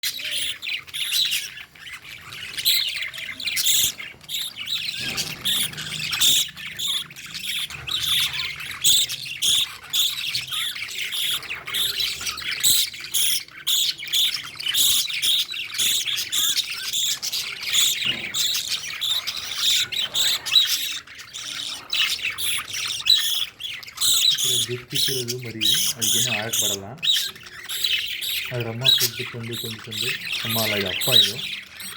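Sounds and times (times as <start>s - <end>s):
lovebirds chirping and squawking: 0.0s - 31.9s.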